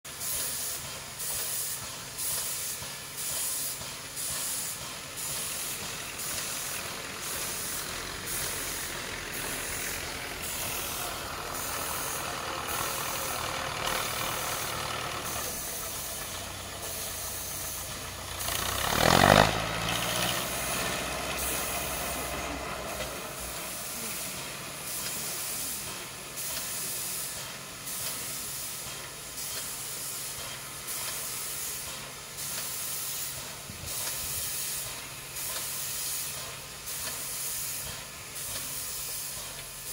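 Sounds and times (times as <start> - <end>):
steam locomotive hissing: 0.1 - 39.9.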